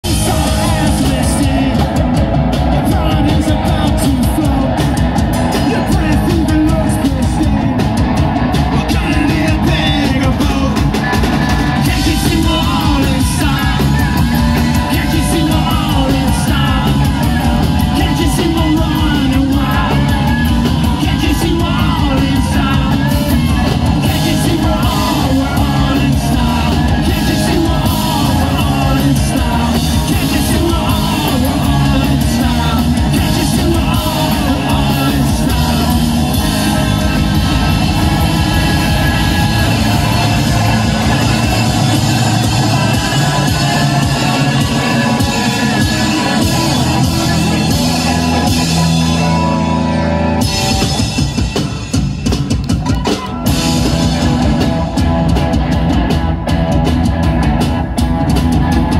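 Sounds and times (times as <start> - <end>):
bass guitar: 0.0 - 58.9
drum kit: 0.0 - 58.9
electric guitars: 0.0 - 58.9.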